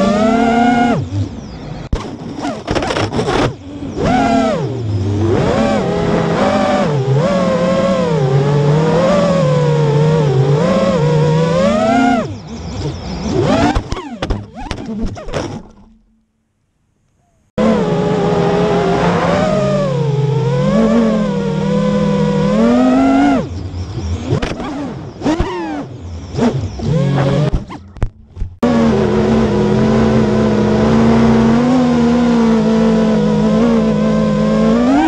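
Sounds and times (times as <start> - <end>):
drone motors and propellers whining: 0.0 - 16.3, 17.1 - 35.0.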